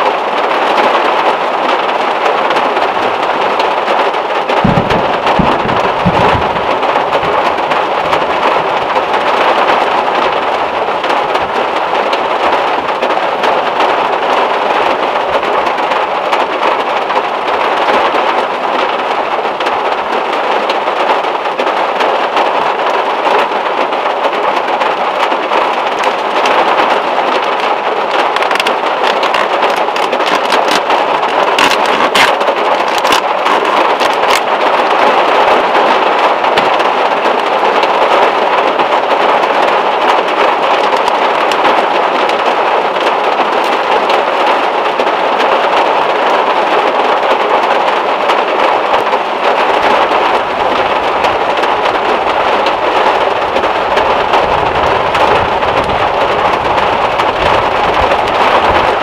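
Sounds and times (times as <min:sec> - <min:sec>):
heavy rain on metal car roof: 0:00.0 - 0:59.0.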